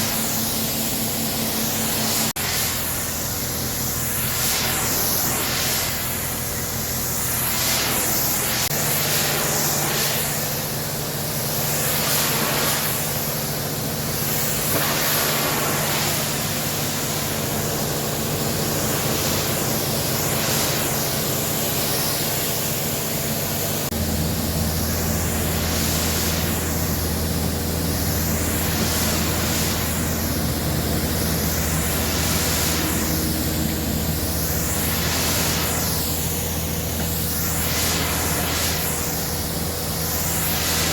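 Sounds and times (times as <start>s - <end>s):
pressure washer spraying water: 0.0s - 40.9s
pump motor humming: 0.0s - 40.9s.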